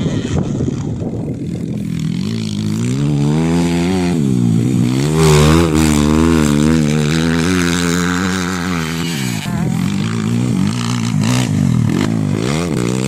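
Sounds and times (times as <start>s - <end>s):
dirt bike engine revving: 0.0s - 13.0s
wind on microphone: 0.0s - 13.0s.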